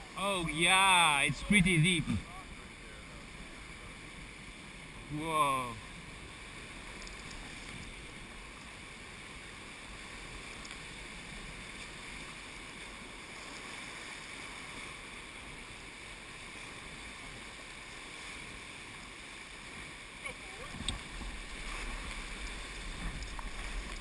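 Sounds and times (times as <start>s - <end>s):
fast river water rushing: 0.0s - 24.0s.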